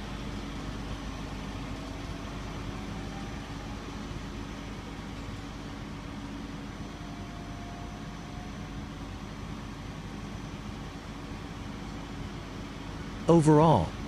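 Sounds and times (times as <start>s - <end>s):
crane mechanical hum: 0.0s - 14.0s.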